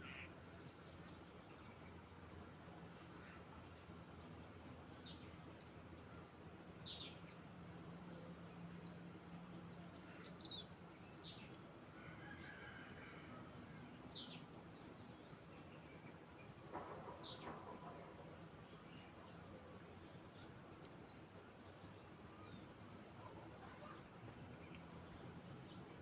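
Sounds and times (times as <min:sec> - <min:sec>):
quiet outdoor hiss: 0:00.0 - 0:26.0.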